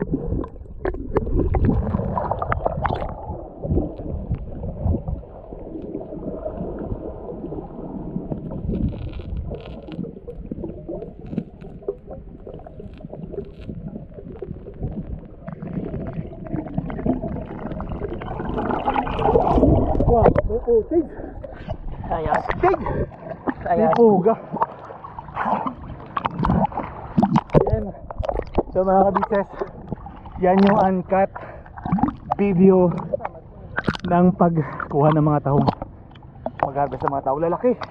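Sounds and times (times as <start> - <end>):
underwater gurgling and sloshing: 0.0 - 37.9.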